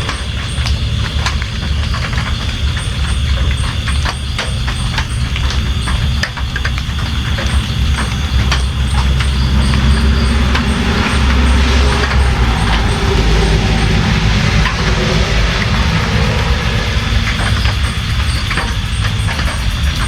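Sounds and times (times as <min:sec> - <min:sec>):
steady rain: 0:00.0 - 0:20.0
faint high ticking: 0:03.0 - 0:19.5.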